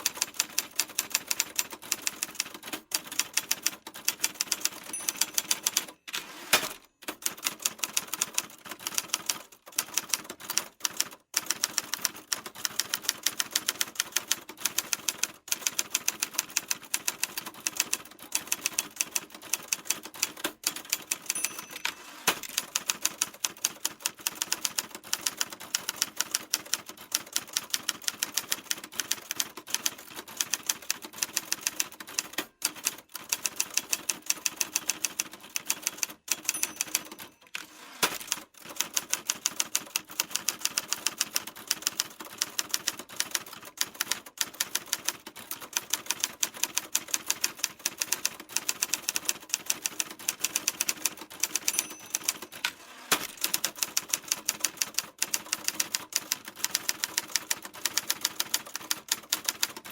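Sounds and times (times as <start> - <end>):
typewriter keys clacking: 0.0 - 59.9.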